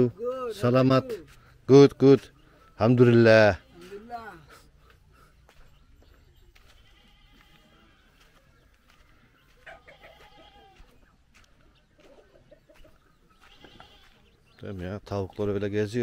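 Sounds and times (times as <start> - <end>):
faint chickens clucking: 0.0 - 16.0.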